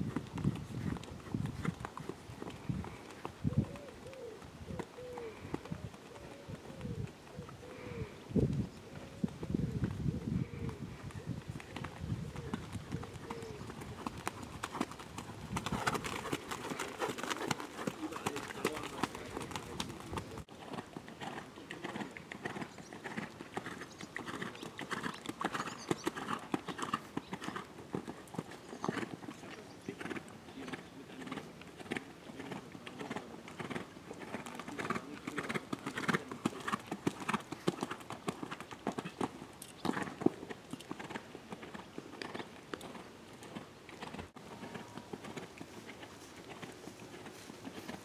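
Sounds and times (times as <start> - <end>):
horse hoofbeats cantering on sand: 0.0 - 3.4, 11.5 - 48.0.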